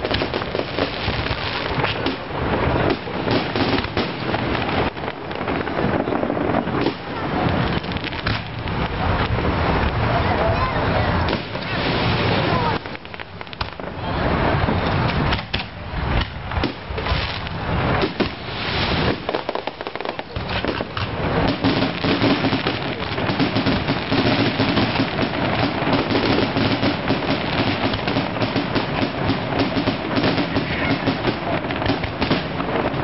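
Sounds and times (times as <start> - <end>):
firework bangs: 0.0 - 33.0
fireworks crackling barrage: 0.0 - 33.0.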